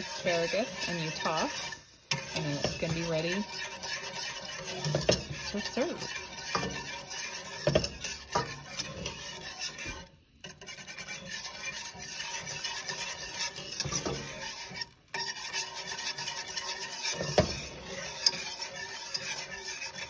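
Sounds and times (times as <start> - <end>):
whisk knocking against pan: 0.0 - 20.0
whisk scraping a metal skillet: 0.0 - 20.0.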